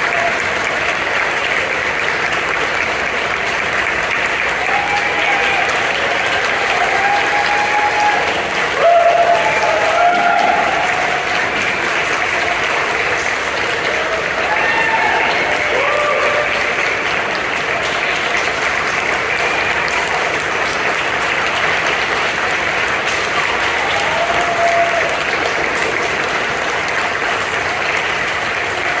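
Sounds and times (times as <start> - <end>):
audience applauding: 0.0 - 29.0
crowd calls: 4.0 - 29.0.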